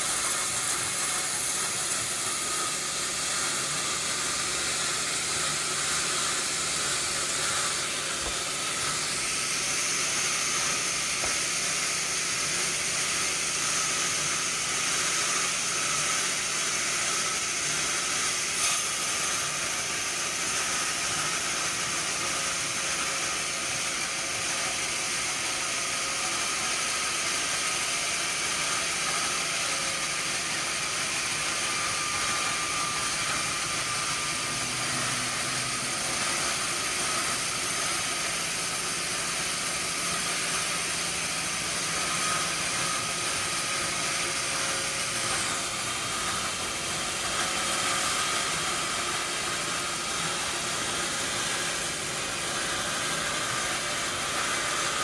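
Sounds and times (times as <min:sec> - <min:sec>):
sawmill machinery hissing: 0:00.0 - 0:55.0.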